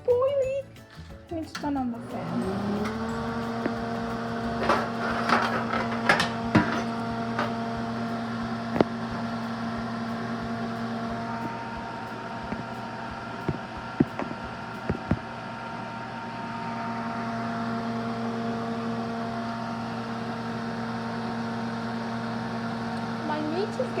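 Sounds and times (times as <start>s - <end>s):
extractor fan humming: 0.0s - 24.0s.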